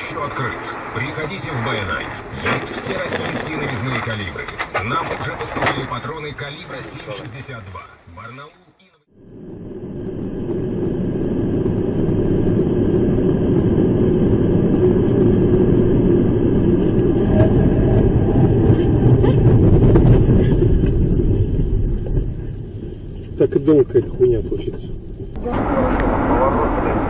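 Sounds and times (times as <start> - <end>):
vehicle road and engine rumble: 0.0 - 27.0.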